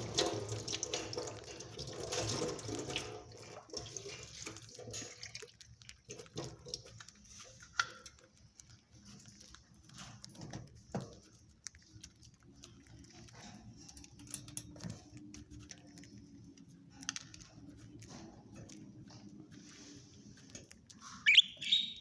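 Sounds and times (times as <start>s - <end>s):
chicks scratching and clicking: 0.0s - 22.0s.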